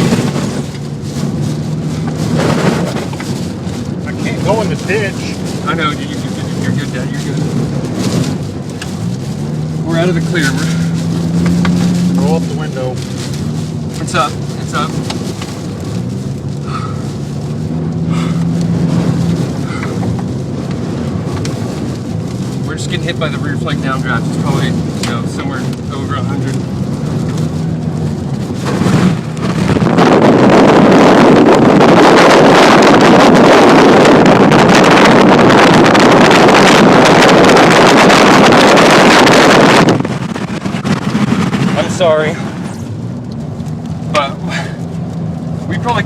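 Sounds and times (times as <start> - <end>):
car engine humming inside cabin: 0.0 - 46.0
strong wind hitting vehicle: 0.0 - 46.0.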